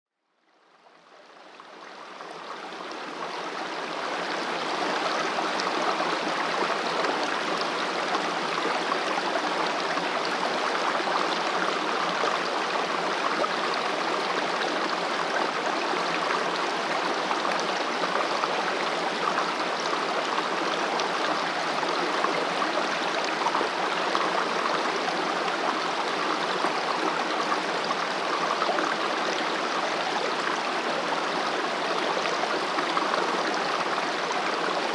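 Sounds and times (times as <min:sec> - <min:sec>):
stream flowing: 0:00.6 - 0:34.9.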